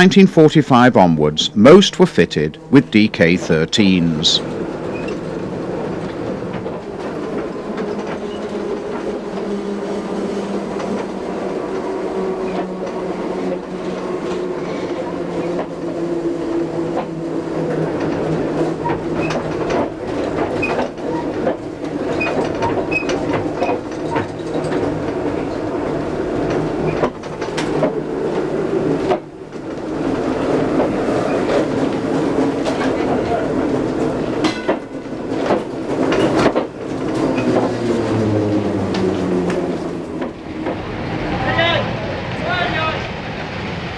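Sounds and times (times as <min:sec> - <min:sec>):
tram motor humming: 0:00.0 - 0:43.9
wheels clicking on rails: 0:02.4 - 0:43.9.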